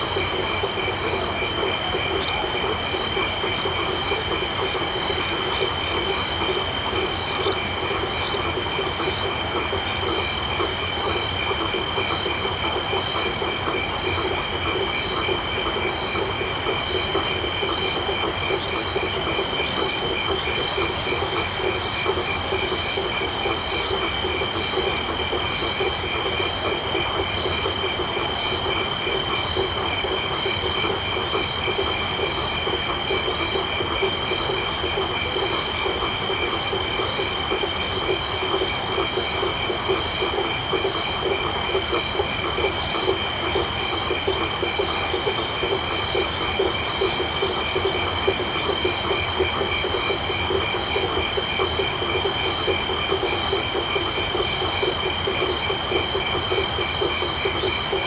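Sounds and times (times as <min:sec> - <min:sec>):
crickets trilling: 0:00.0 - 0:21.3, 0:21.9 - 0:58.0.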